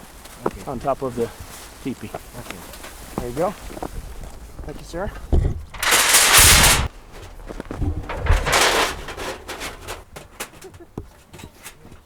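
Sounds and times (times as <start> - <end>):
crunching in snow: 0.0 - 10.0.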